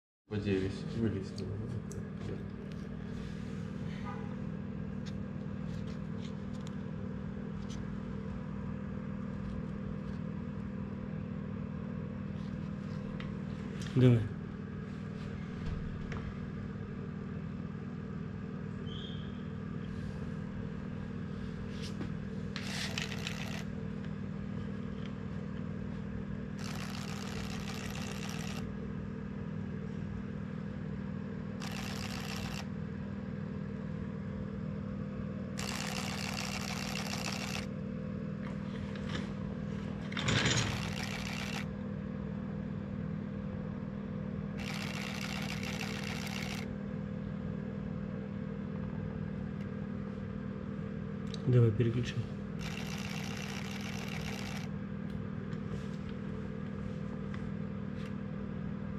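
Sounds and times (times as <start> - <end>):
steady low hum: 0.3 - 58.9.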